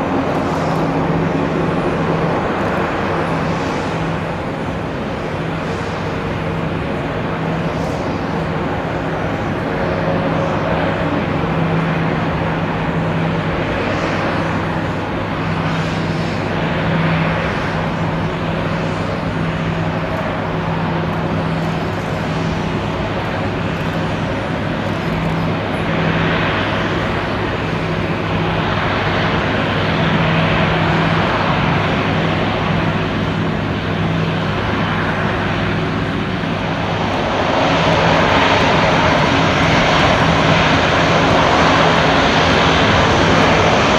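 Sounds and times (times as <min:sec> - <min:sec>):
aircraft propeller engines droning: 0:00.0 - 0:43.9.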